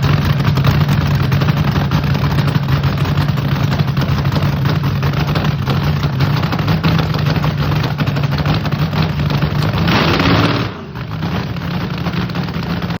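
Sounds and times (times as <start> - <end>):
dragster engine idling with crackle: 0.0 - 13.0.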